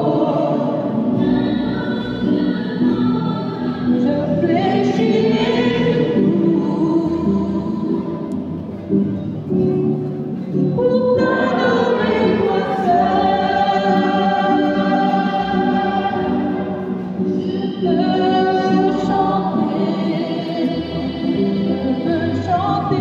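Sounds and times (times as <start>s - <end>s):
hymn singing: 0.0s - 8.8s, 10.7s - 23.0s.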